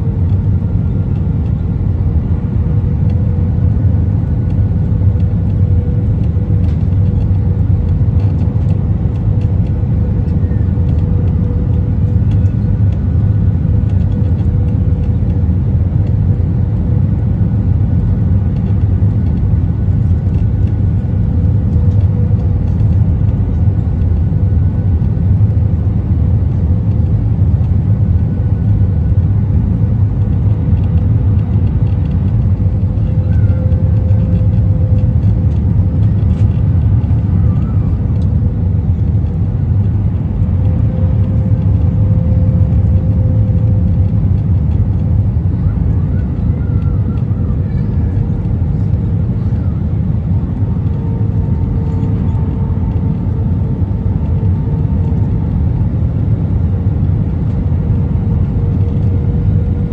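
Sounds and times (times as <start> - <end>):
airliner engines and airflow rumble: 0.0 - 59.9.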